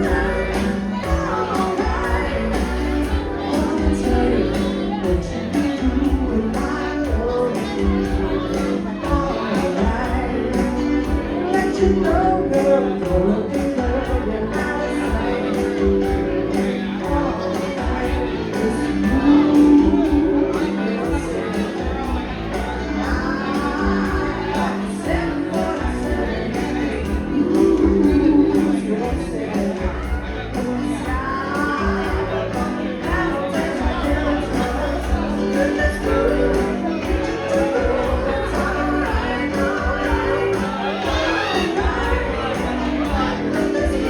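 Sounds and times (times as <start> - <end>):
band playing disco-funk song: 0.0 - 44.0
person singing: 0.0 - 44.0.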